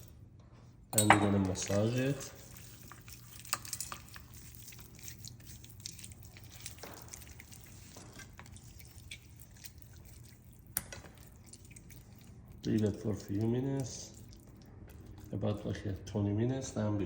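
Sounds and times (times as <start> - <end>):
wet squishing of raw chicken: 1.6 - 16.5.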